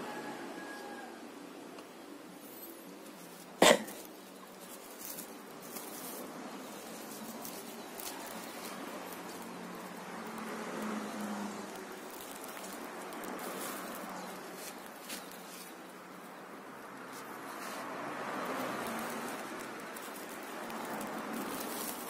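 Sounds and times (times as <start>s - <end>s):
plastic wrap crinkling: 2.6s - 22.0s.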